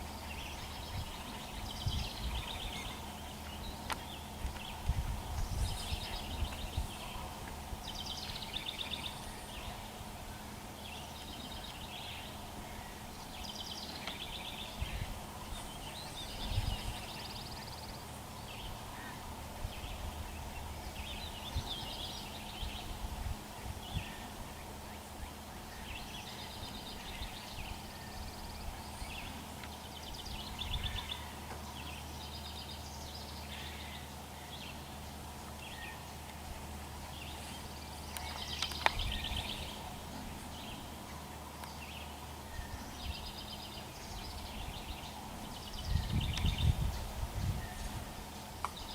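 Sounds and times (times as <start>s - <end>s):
birds chattering: 0.0s - 48.9s
steady low hum: 0.0s - 48.9s.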